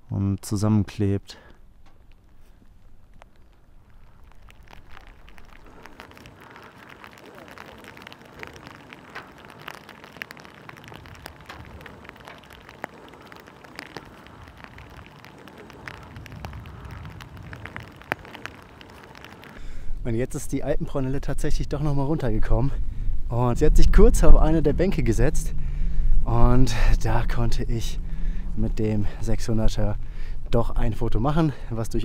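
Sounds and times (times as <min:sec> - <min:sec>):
steady rain: 0:00.1 - 0:32.0
wind rumbling on microphone: 0:01.6 - 0:32.0.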